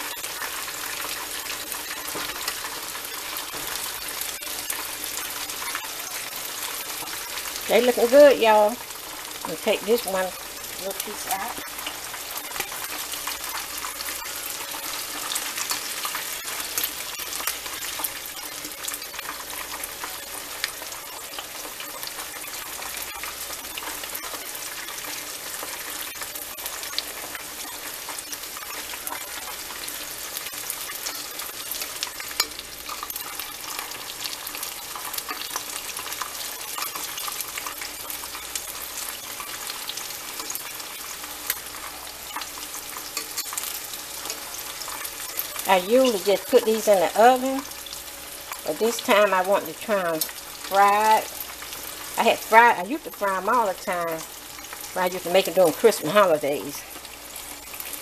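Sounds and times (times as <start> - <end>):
chicken wings sizzling in oil: 0.0 - 58.0.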